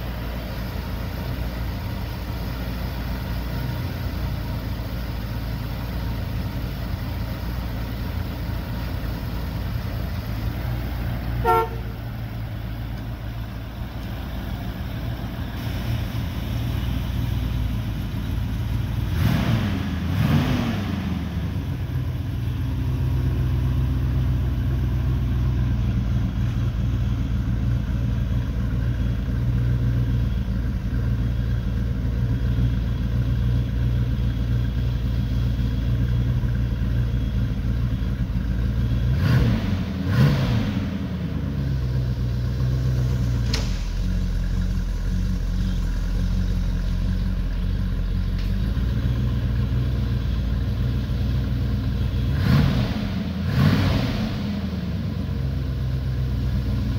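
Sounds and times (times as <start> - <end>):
car engine idling: 0.0 - 56.9
engine throttle blips: 0.0 - 56.9.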